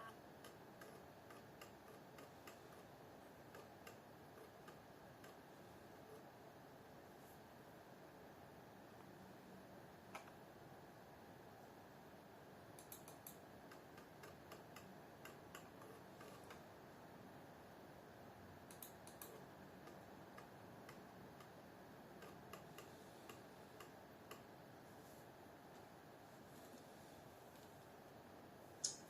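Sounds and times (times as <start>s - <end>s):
low background hiss: 0.0s - 29.0s.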